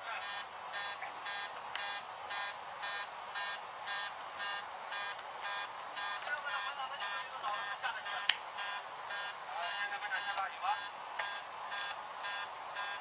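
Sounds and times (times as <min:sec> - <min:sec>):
steady cockpit hiss: 0:00.0 - 0:13.0
cockpit warning tone pulsing: 0:00.2 - 0:13.0.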